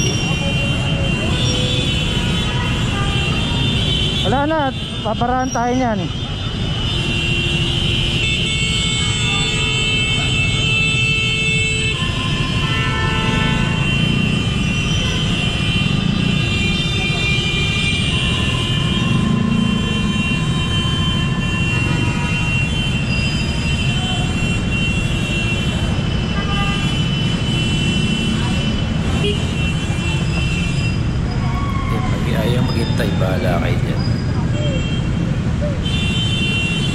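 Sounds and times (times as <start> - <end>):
car horns: 0.0 - 31.2, 31.9 - 36.9
engine and traffic rumble: 0.0 - 36.9.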